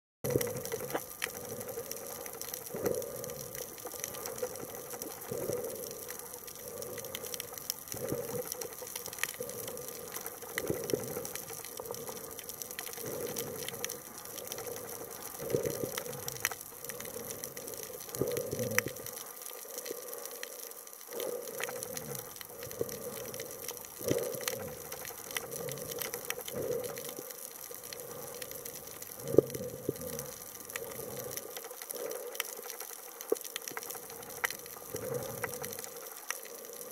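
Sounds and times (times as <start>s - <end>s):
faint clicks: 0.3s - 36.9s
underwater water rush: 0.3s - 36.9s.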